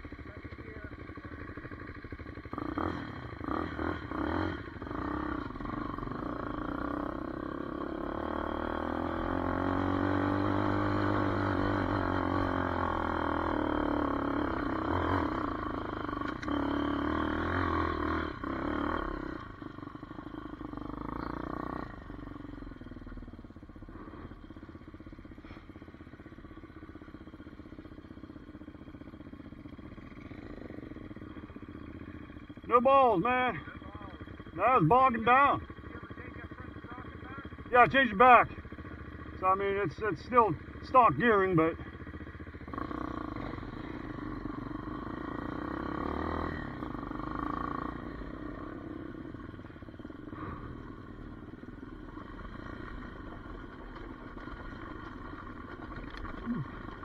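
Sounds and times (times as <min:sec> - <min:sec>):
dirt bike engine revving: 0:00.1 - 0:57.0.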